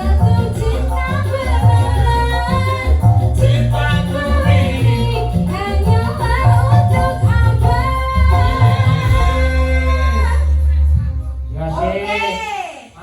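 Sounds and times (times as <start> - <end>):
heavy steady bass line: 0.0 - 12.4
singer holding bending notes: 0.0 - 12.6.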